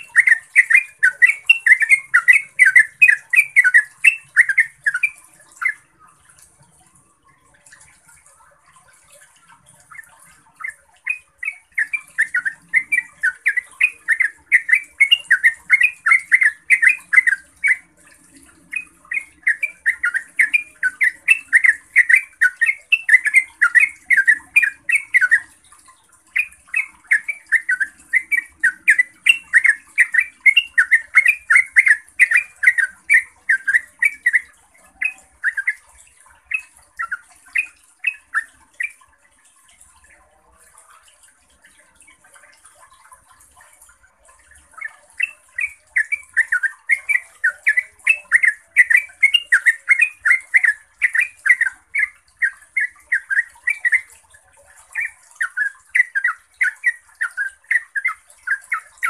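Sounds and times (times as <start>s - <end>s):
bulbul singing rapid song: 0.0s - 6.0s, 6.7s - 39.1s, 44.4s - 59.0s.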